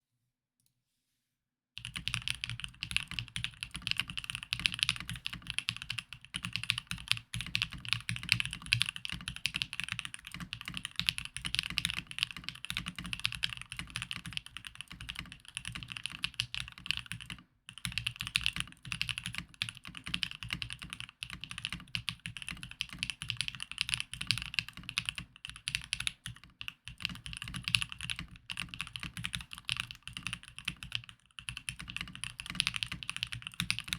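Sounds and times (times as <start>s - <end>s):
mechanical keyboard typing: 1.8s - 33.9s.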